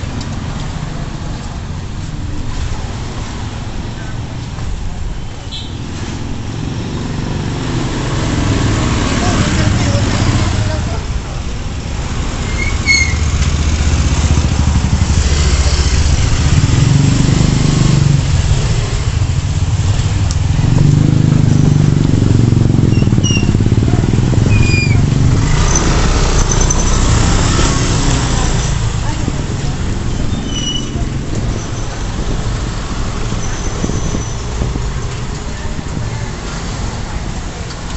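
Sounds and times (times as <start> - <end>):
motorcycle engines passing: 5.8 - 37.9.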